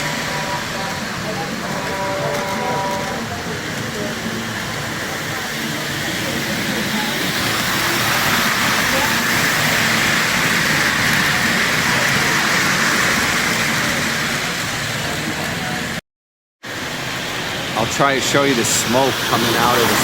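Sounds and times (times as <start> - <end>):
indoor crowd hubbub: 0.0 - 16.0, 16.6 - 20.0
model trains running: 0.0 - 16.0, 16.6 - 20.0.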